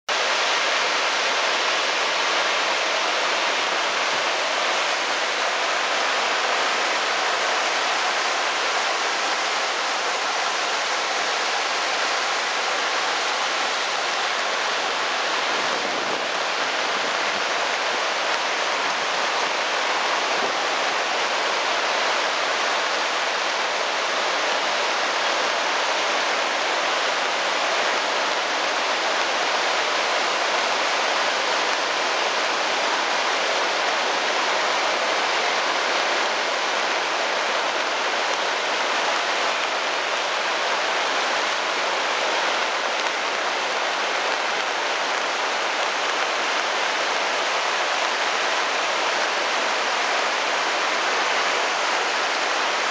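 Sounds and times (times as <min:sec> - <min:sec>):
floodwater rushing: 0:00.1 - 0:52.9.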